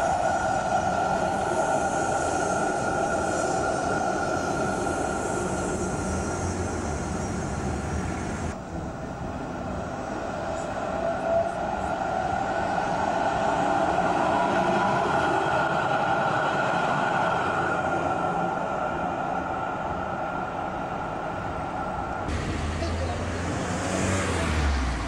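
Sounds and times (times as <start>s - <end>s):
electric tram pulling away: 0.0s - 25.0s
tram approaching along rails: 0.0s - 25.0s.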